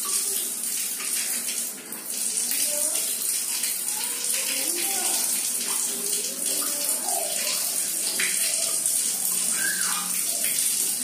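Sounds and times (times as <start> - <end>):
water splashing onto tiled floor: 0.0 - 11.0.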